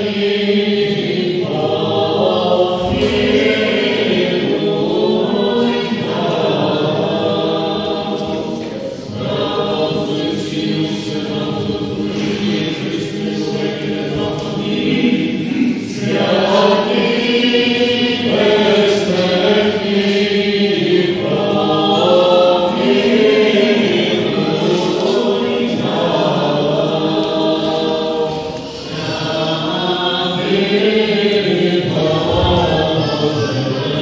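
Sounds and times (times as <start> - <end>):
choir singing chant-like phrases: 0.0 - 34.0.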